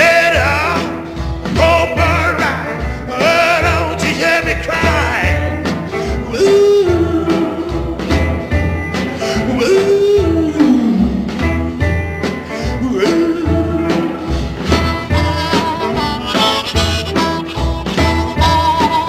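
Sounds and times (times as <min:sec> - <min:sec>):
electric blues band playing: 0:00.0 - 0:19.0.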